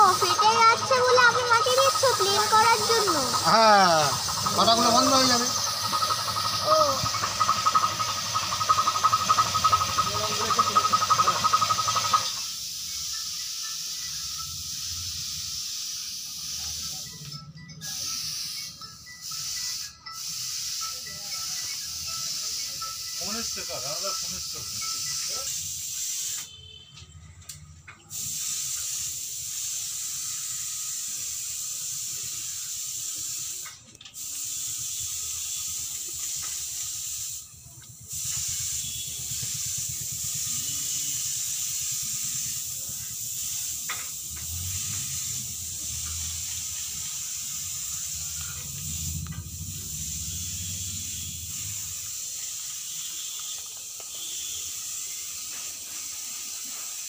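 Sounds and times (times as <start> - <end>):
steady hiss: 0.0 - 27.1, 28.0 - 57.0.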